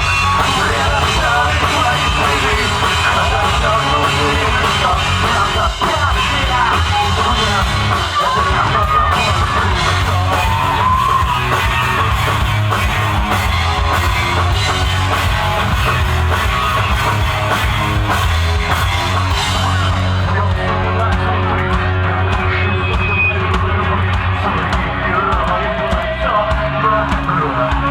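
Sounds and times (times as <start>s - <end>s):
bass guitar: 0.0s - 27.9s
distorted guitars: 0.0s - 27.9s
drums: 0.0s - 27.9s
shouted vocals: 0.0s - 27.9s.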